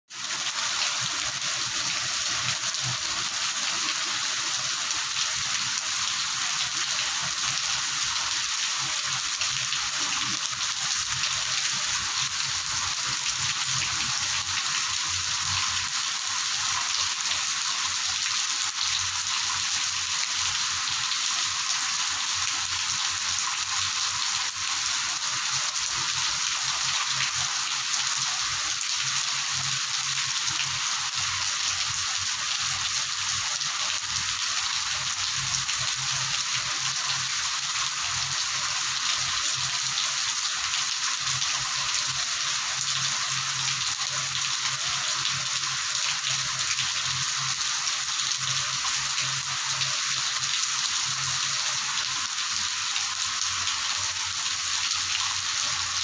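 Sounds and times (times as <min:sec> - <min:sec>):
torrential rain on paving: 0:00.1 - 0:56.0.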